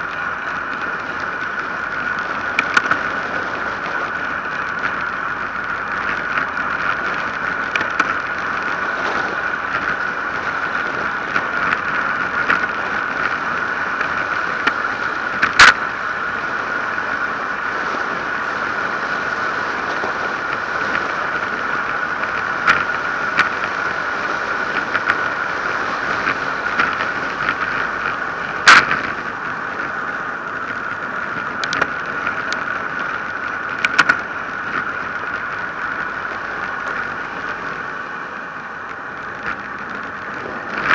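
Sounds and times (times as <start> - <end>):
bicycle tyre noise: 0.0 - 40.9.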